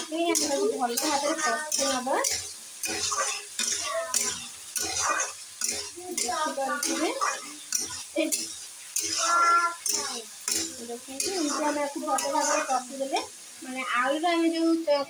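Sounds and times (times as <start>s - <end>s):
spatula scraping metal pan: 0.0s - 13.3s
sauce sizzling: 0.0s - 15.0s.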